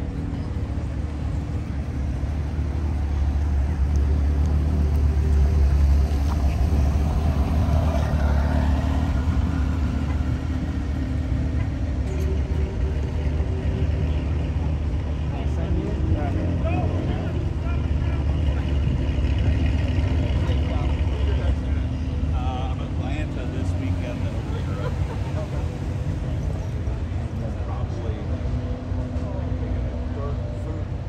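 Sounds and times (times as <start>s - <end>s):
car exhaust passing: 0.0s - 31.0s.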